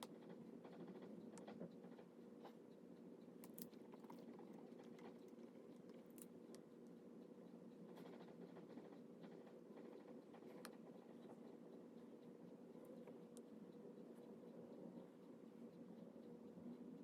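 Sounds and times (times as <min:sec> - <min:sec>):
faint clicks and taps: 0:00.0 - 0:16.9
low room hum: 0:00.0 - 0:17.0.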